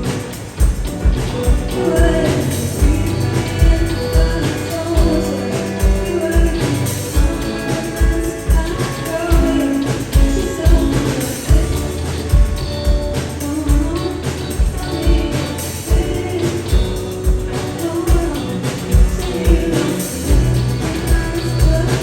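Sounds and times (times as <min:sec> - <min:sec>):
live band playing pop song: 0:00.0 - 0:22.0
person singing: 0:00.0 - 0:22.0.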